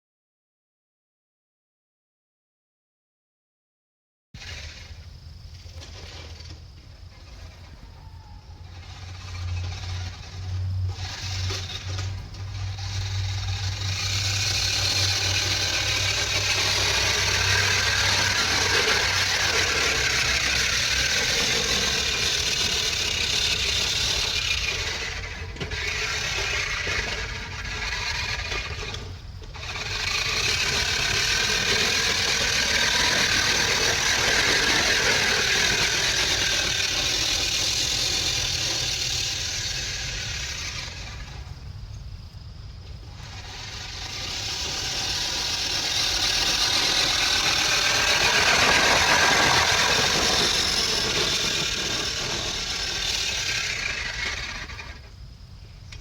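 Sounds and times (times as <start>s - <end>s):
engine noise: 4.4s - 56.0s.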